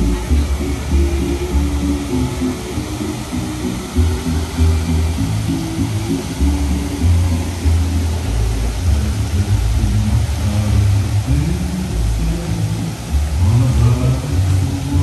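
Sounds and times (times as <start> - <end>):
deep bass soundtrack over loudspeakers: 0.0 - 15.0
steady rushing hiss: 0.0 - 15.0.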